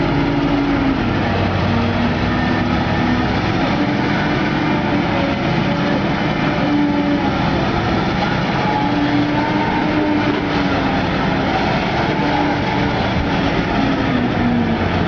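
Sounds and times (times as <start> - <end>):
diesel engines running under load: 0.0 - 15.0.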